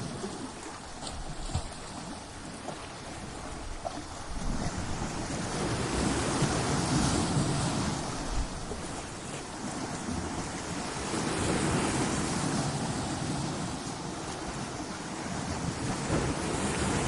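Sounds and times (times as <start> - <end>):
ocean waves breaking against rocks: 0.0 - 17.0.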